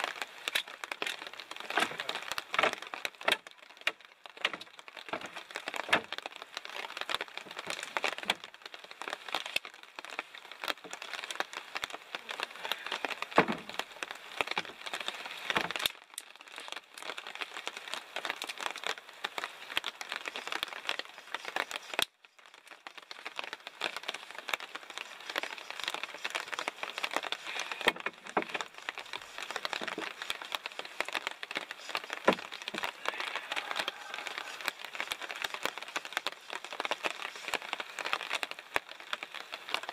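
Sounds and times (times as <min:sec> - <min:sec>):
rain pattering on forest floor: 0:00.0 - 0:39.9.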